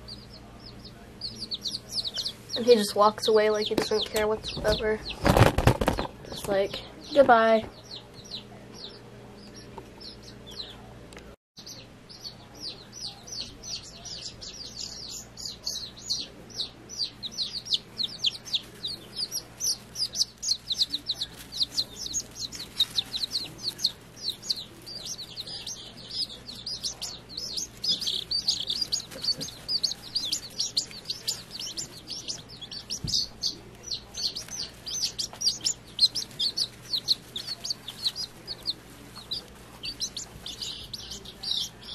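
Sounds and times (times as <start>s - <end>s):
chicks peeping: 0.0s - 41.9s.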